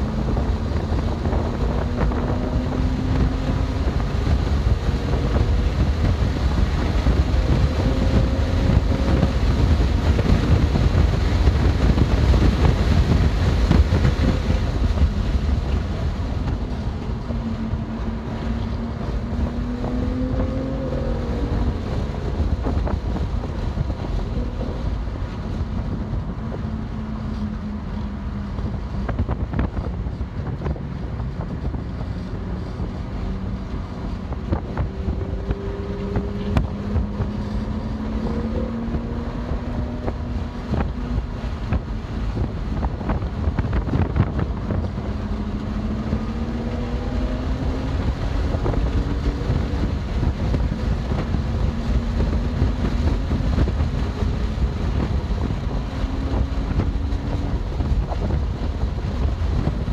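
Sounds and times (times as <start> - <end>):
car engine under load: 0.0 - 59.9
road noise: 0.0 - 59.9
wind noise: 0.0 - 59.9.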